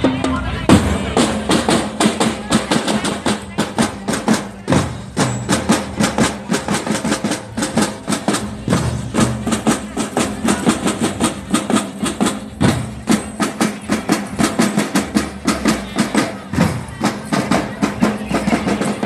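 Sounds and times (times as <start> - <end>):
fast drum strikes: 0.0 - 19.0.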